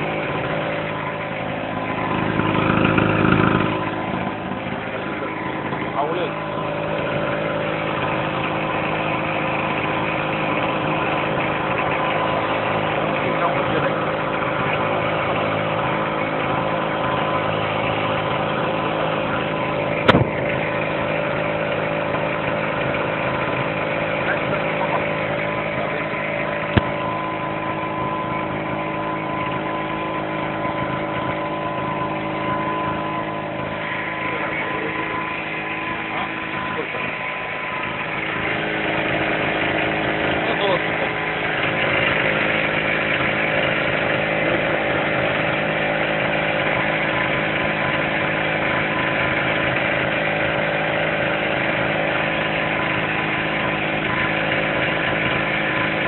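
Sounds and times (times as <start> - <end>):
portable generator engine running: 0.0 - 56.0.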